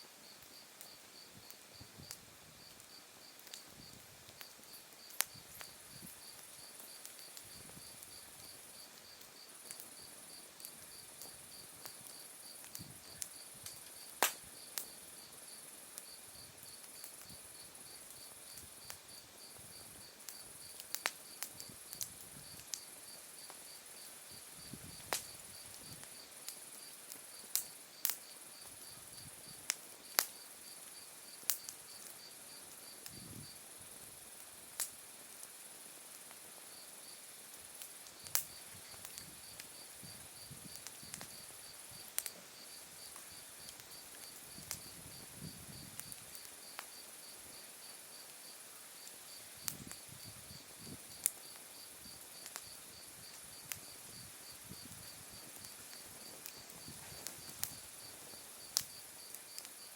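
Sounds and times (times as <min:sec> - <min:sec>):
wood fire crackling: 0:00.3 - 0:59.9.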